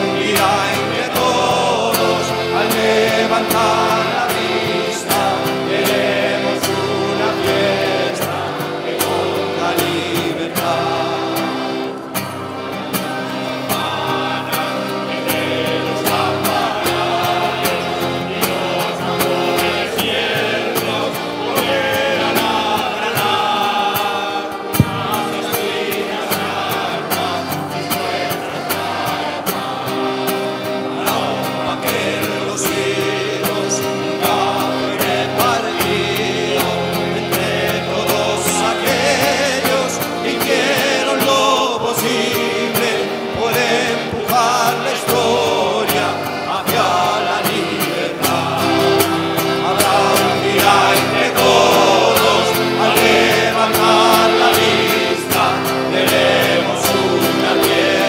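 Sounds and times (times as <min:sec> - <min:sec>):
accordion: 0:00.0 - 0:58.0
crowd singing: 0:00.0 - 0:58.0
strummed acoustic guitars: 0:00.0 - 0:58.0.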